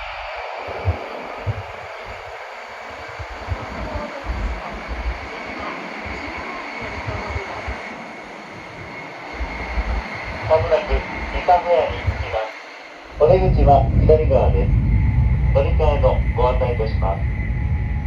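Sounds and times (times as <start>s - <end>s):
faint steady tones: 0.0s - 18.0s
low rumbles: 0.0s - 18.0s.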